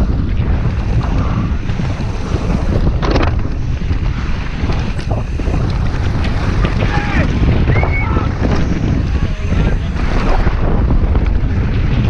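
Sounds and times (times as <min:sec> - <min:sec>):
heavy wind buffeting microphone: 0:00.0 - 0:12.0
tyre and bike rattle: 0:00.0 - 0:12.0.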